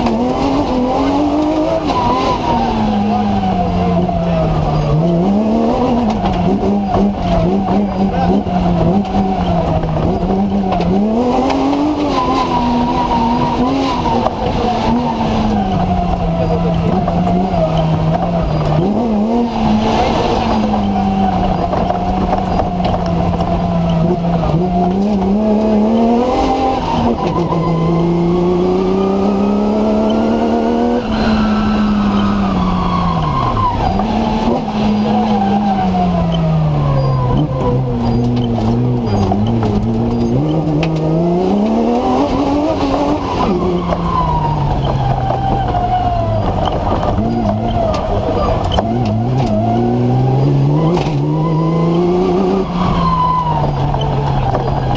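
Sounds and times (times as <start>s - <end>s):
constant rushing noise: 0.0s - 54.9s
rally car engine revving: 0.0s - 54.9s.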